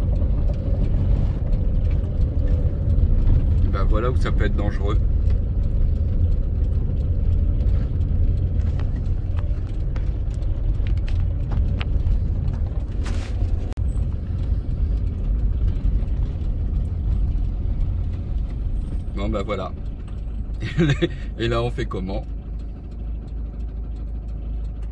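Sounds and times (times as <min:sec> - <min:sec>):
engine and road rumble: 0:00.0 - 0:24.9.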